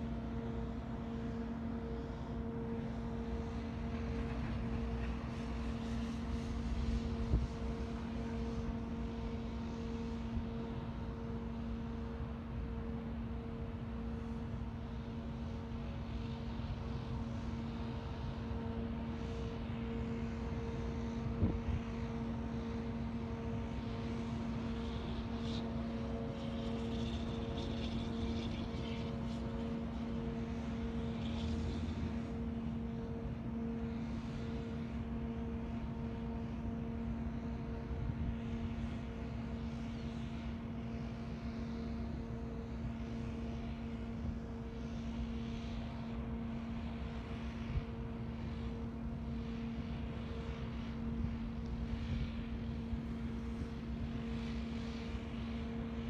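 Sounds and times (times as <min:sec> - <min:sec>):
steady engine-like hum: 0:00.0 - 0:56.0.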